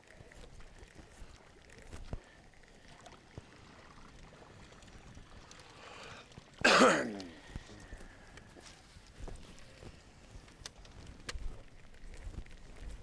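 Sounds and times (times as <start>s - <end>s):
faint water sounds: 0.0s - 13.0s.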